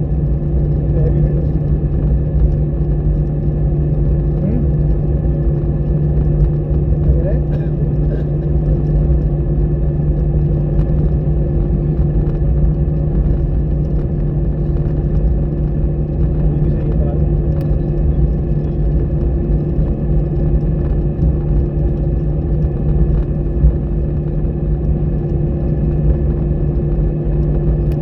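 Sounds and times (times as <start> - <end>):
jet engines droning in cabin: 0.0 - 28.0.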